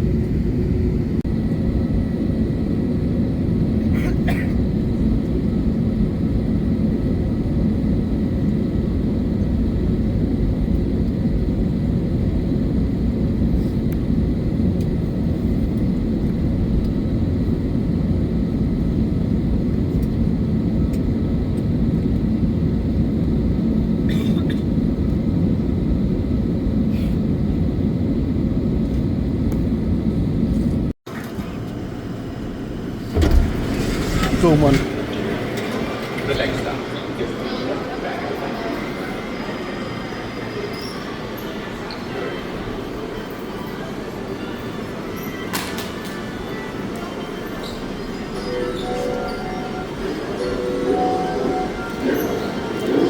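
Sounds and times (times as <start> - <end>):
airliner cabin engine rumble: 0.0 - 44.8, 45.8 - 53.0.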